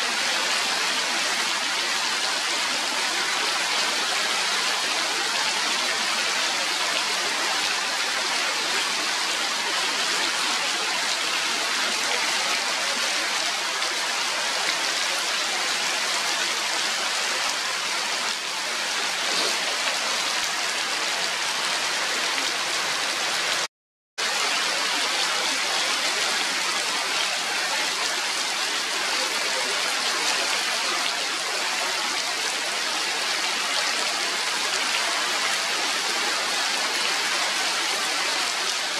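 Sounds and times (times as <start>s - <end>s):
rain falling on trees: 0.0s - 38.9s.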